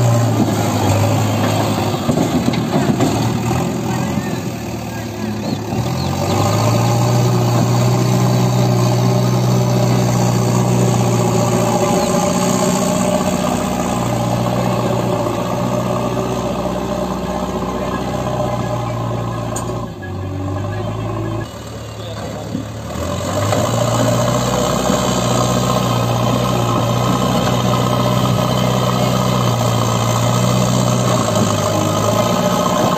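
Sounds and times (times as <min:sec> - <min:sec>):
diesel engine running under load: 0:00.0 - 0:32.9.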